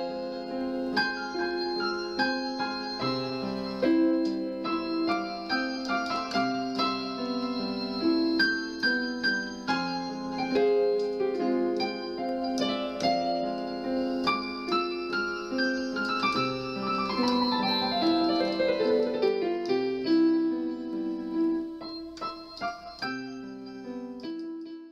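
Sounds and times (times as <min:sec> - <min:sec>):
solo piano music: 0:00.0 - 0:24.9.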